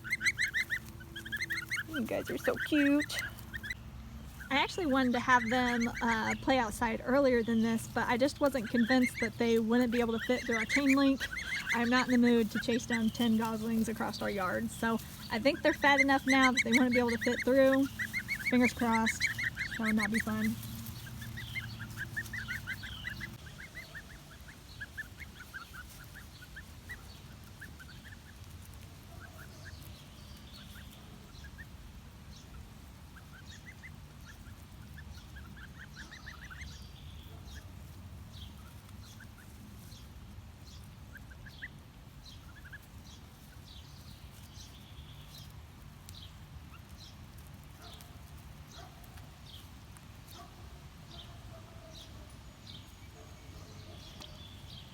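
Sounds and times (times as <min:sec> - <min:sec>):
low steady rumble: 0:00.0 - 0:51.2
goslings peeping: 0:00.0 - 0:54.9.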